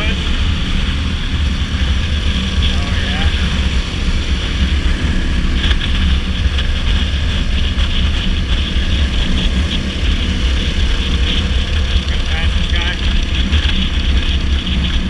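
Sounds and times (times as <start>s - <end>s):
dirt bike engine running: 0.0s - 15.0s
heavy wind noise: 0.0s - 15.0s.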